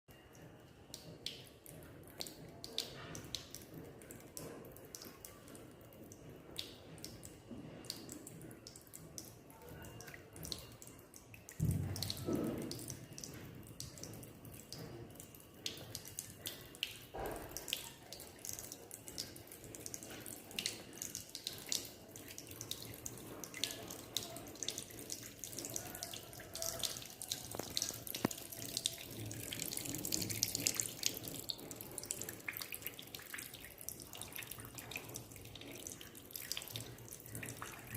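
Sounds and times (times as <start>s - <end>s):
water trickling from a tap: 0.1s - 37.9s.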